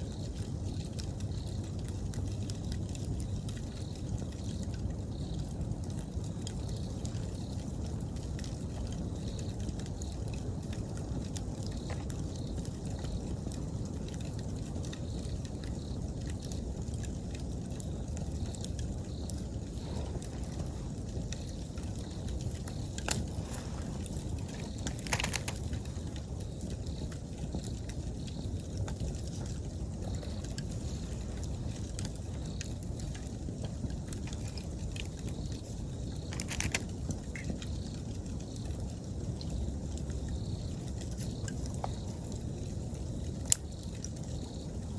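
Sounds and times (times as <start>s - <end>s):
campfire crackling: 0.0s - 44.9s
insects chirping: 0.0s - 44.9s
sharp pops from fire: 0.0s - 44.9s.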